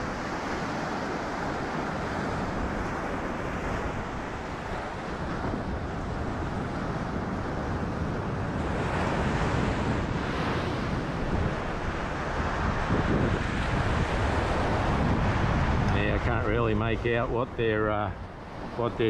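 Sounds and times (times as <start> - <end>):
ocean surf washing in: 0.0 - 19.0
wind rushing over microphone: 0.0 - 19.0.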